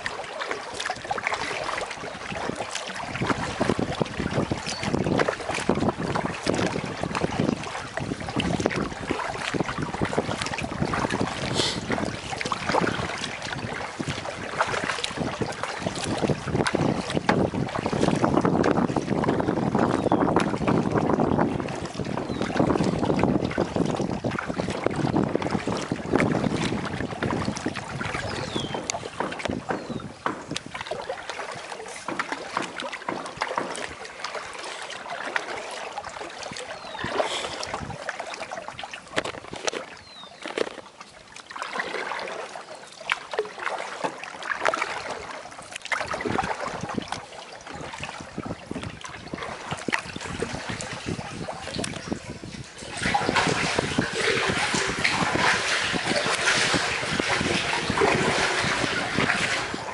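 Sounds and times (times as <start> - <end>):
paddle strokes splashing water: 0.0 - 59.9
wind buffeting microphone: 0.8 - 34.6, 36.0 - 40.2, 45.9 - 59.9.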